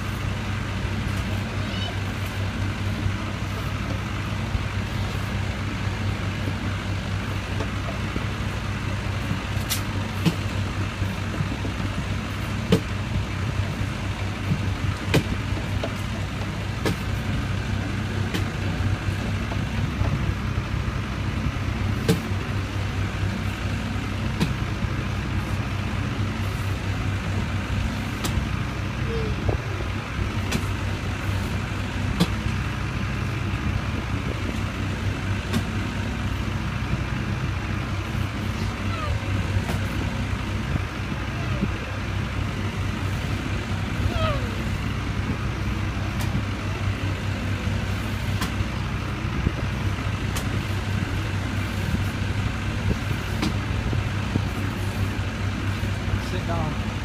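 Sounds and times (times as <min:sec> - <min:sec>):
low motor hum: 0:00.0 - 0:57.0.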